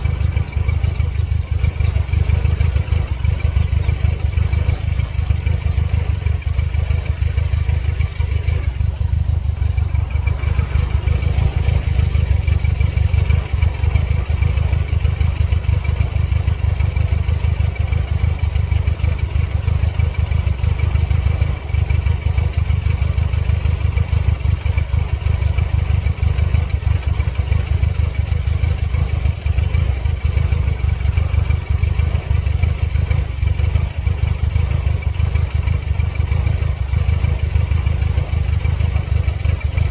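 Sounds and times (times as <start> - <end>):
car engine idling unevenly: 0.0 - 39.9.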